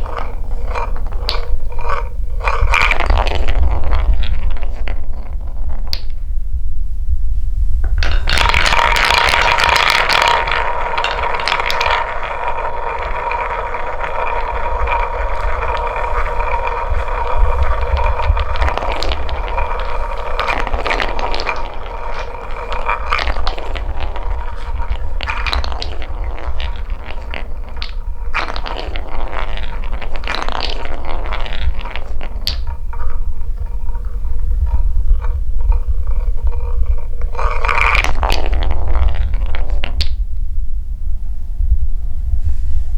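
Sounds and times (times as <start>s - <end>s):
balls rolling on wooden track: 0.0s - 6.2s, 7.8s - 40.2s
clicks and clatter of balls: 0.0s - 6.2s, 7.8s - 40.2s.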